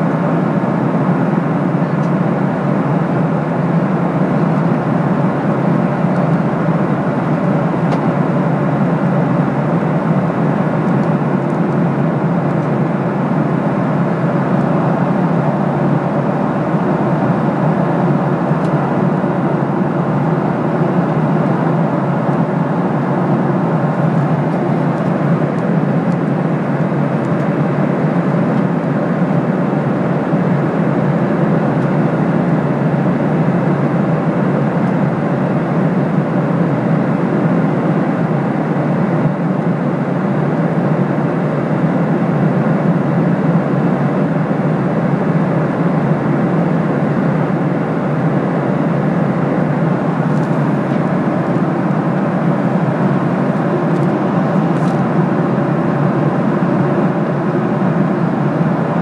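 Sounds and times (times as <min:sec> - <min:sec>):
air rushing along fuselage: 0:00.0 - 0:59.0
jet engines humming: 0:00.0 - 0:59.0.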